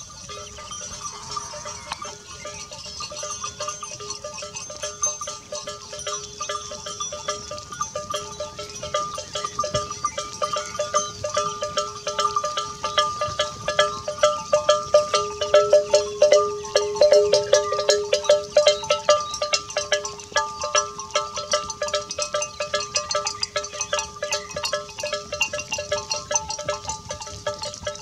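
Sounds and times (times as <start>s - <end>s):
goat bells clanking: 0.0s - 28.0s.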